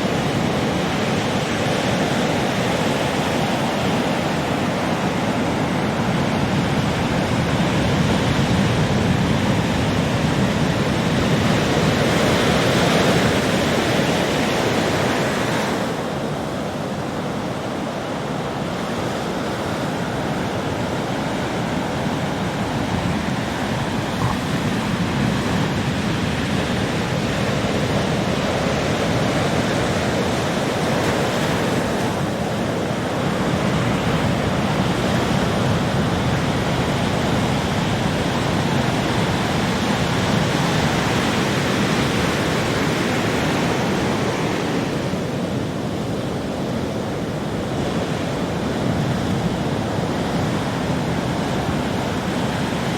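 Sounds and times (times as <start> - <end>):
ocean waves breaking on beach: 0.0 - 52.9.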